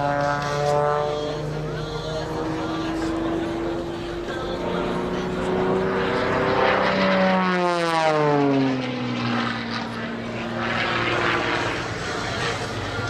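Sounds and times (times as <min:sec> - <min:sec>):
propeller plane passing by: 0:00.0 - 0:13.0.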